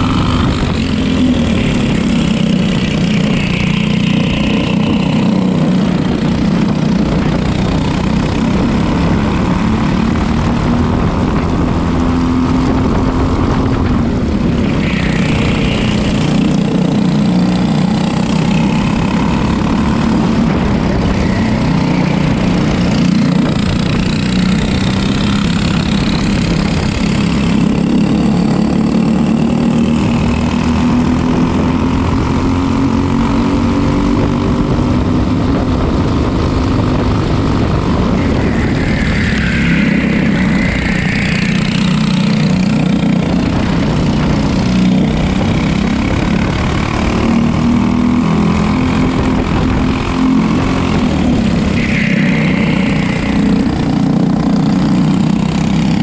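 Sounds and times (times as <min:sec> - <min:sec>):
kart engine running: 0:00.0 - 0:56.0.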